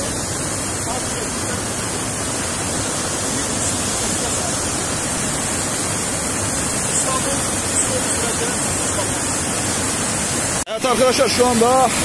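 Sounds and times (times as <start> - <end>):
water cascading from dam outlet: 0.0 - 12.0.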